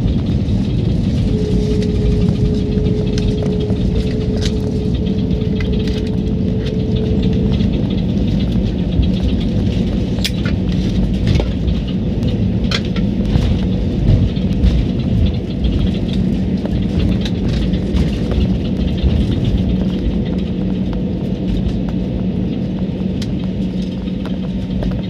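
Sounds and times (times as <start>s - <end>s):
airliner engine rumble in cabin: 0.0s - 25.0s
small rattles and crackles: 0.0s - 25.0s.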